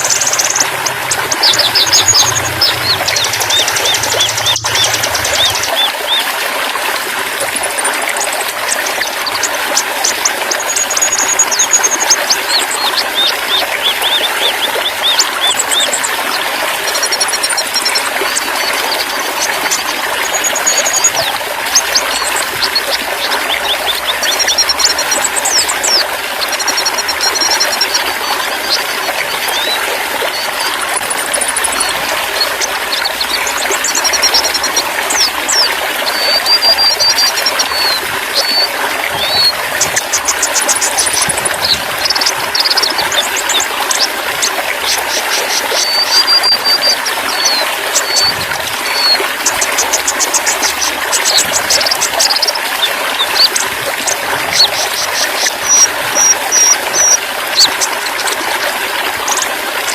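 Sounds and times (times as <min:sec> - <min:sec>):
songbirds chirping and whistling: 0:00.0 - 0:06.3, 0:08.2 - 0:58.4
trickling running water: 0:00.0 - 0:59.9.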